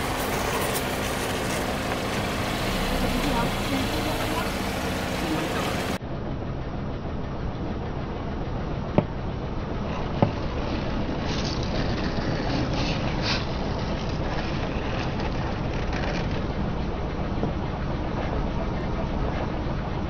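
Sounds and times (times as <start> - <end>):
car tyre rolling rumble: 0.0 - 20.0.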